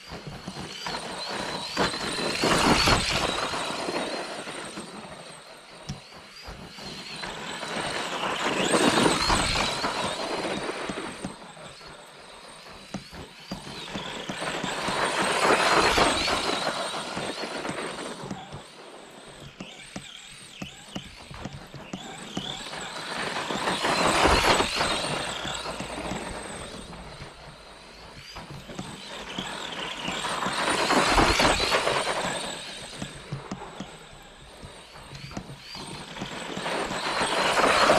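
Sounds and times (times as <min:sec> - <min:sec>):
rc truck motor whine: 0:00.0 - 0:37.9.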